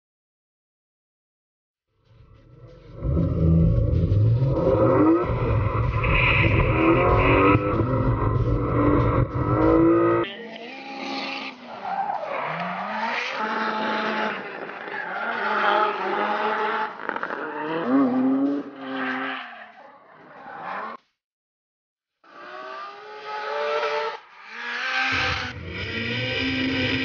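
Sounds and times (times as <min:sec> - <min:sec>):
car engines revving: 0:02.4 - 0:21.0, 0:22.3 - 0:27.0.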